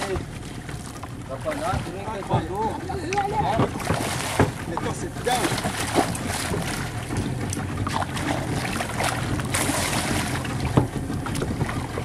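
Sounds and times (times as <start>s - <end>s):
boat motor humming: 0.0s - 12.0s
fish thrashing and splashing: 0.0s - 12.0s.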